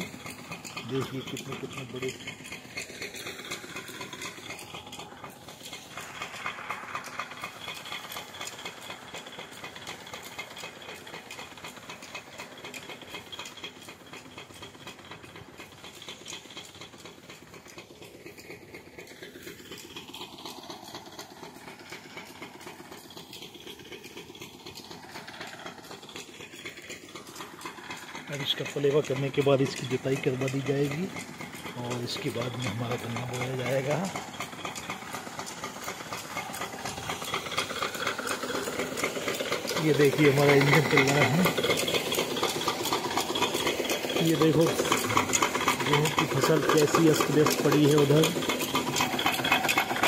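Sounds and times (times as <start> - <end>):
pump engine rattling: 0.0 - 50.0
water gushing from pipe: 0.0 - 50.0.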